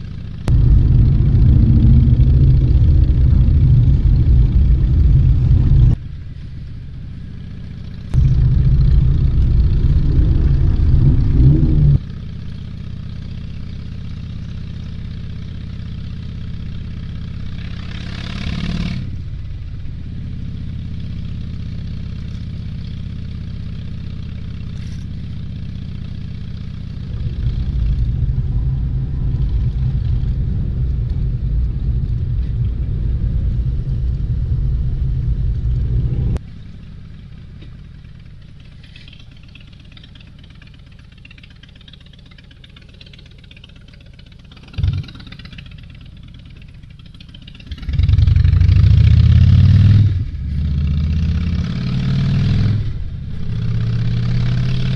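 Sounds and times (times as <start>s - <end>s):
motorcycle engines rumbling: 0.0s - 54.9s.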